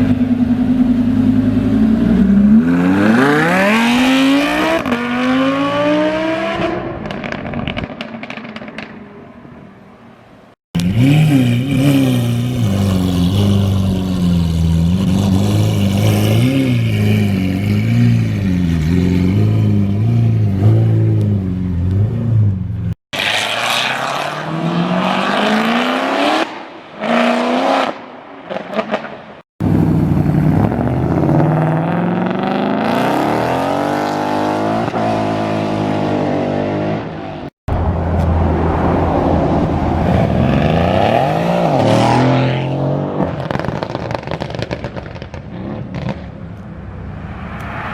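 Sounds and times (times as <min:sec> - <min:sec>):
car engines idling and revving: 0:00.0 - 0:47.9.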